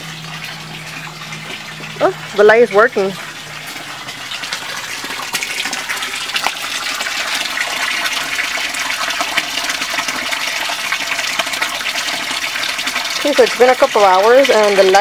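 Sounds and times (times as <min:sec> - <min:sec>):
water splashing in a pond: 0:00.0 - 0:15.0.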